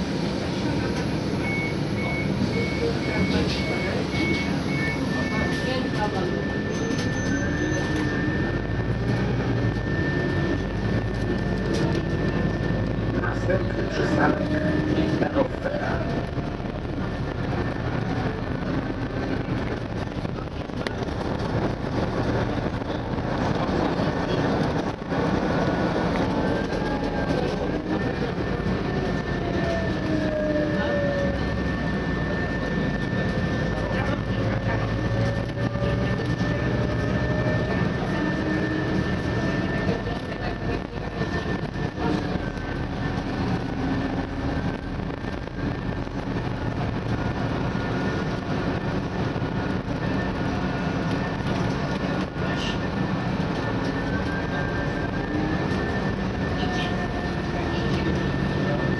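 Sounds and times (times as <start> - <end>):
bus engine running: 0.0 - 58.9
drivetrain whine: 0.0 - 58.9
road noise: 0.0 - 58.9.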